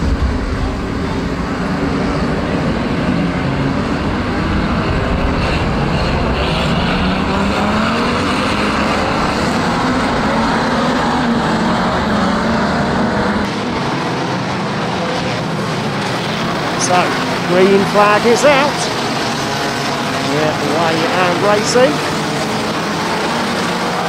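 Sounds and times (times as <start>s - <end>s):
racing car engines droning: 0.0s - 24.0s.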